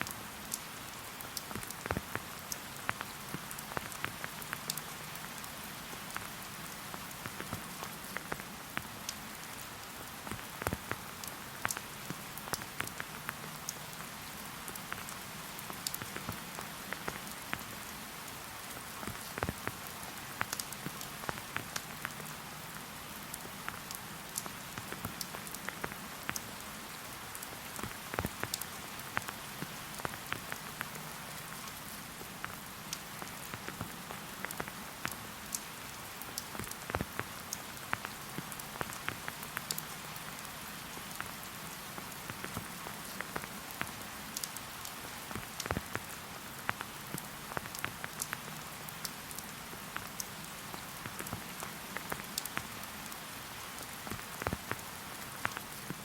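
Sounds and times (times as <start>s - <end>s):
close raindrops striking: 0.0s - 56.0s
steady rain hiss: 0.0s - 56.0s.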